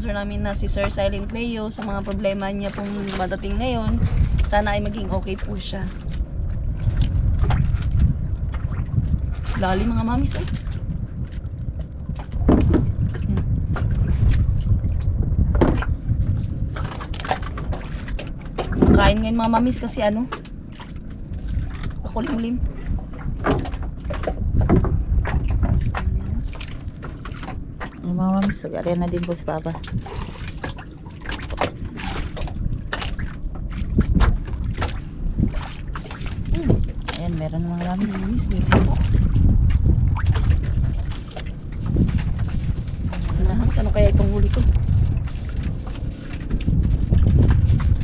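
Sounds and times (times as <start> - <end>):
water lapping against boat: 0.0 - 48.0
wind buffeting microphone: 0.0 - 48.0.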